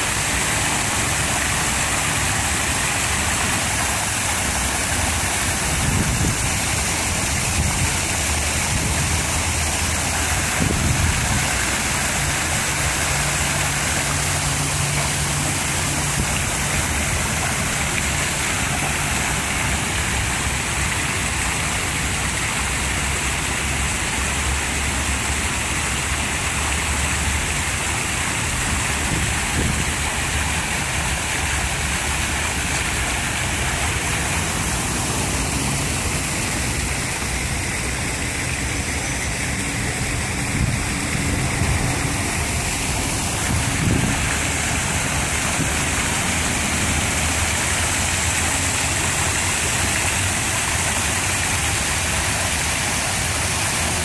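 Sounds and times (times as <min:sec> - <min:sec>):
waterfall splashing into pond: 0:00.0 - 0:54.0.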